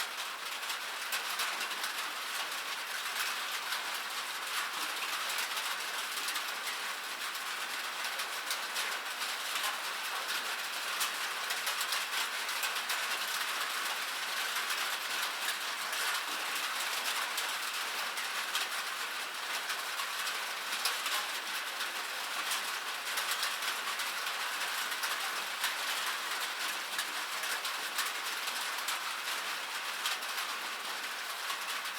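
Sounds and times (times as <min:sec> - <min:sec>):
rain on a metal roof: 0:00.0 - 0:31.9.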